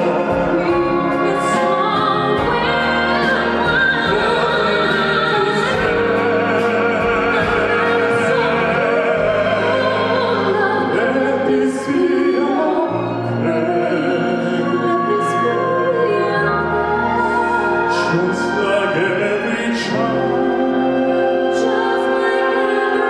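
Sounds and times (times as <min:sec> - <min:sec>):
operatic singing with vibrato: 0:00.0 - 0:23.0
orchestral accompaniment: 0:00.0 - 0:23.0.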